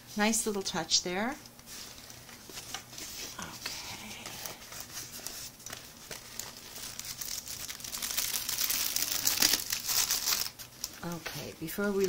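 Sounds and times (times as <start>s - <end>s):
plastic packaging crinkling: 1.4s - 12.0s.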